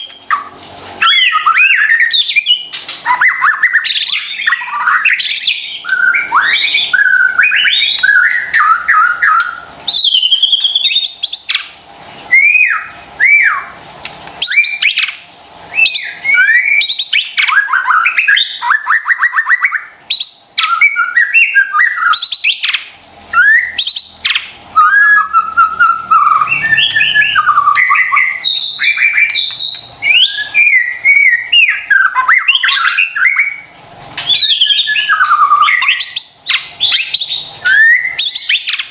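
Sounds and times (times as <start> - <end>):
songbird singing whistled phrases: 1.0 - 11.7, 12.3 - 13.8, 14.4 - 38.9.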